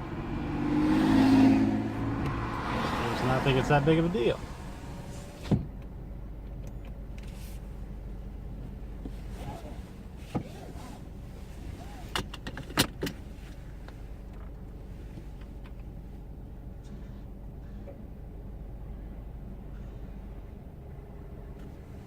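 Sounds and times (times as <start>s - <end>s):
vehicle engine idling: 1.6s - 22.0s.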